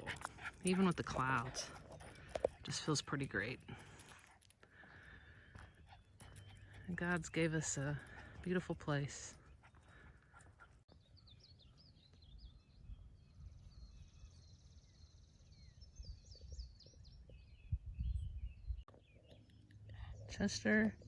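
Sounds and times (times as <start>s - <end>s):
songbirds chirping and singing: 0.0s - 21.0s.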